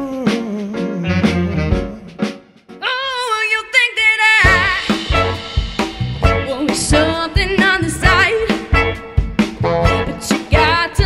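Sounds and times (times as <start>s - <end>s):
pop-soul band with horns: 0.0s - 3.4s, 4.4s - 11.0s
person singing with vibrato: 0.0s - 5.2s, 6.2s - 8.9s, 9.9s - 11.0s.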